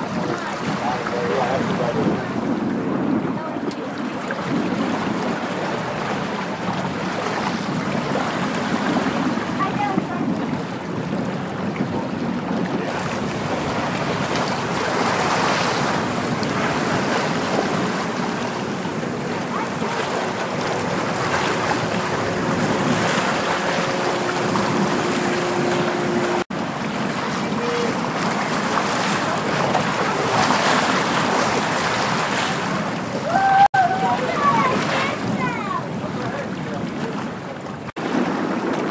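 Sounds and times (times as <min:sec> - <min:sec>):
harbour water: 0:00.0 - 0:38.9
wind rushing over microphone: 0:00.0 - 0:38.9.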